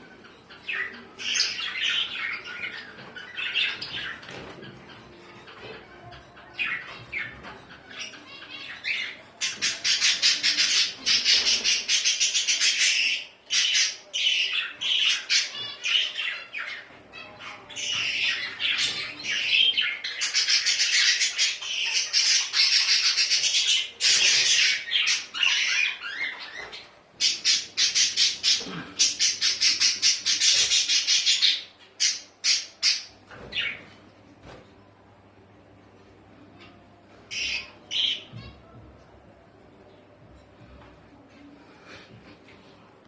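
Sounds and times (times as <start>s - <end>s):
birds squawking: 0.1s - 34.1s, 37.3s - 38.8s.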